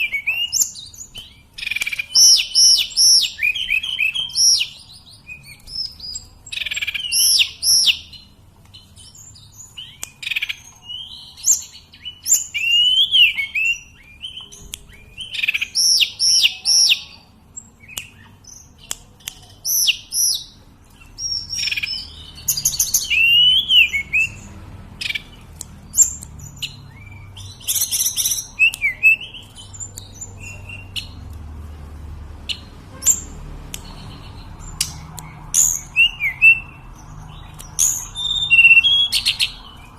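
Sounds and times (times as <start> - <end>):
songbird whistling: 0.0 - 8.2, 8.8 - 17.2, 21.2 - 31.2, 32.5 - 39.9.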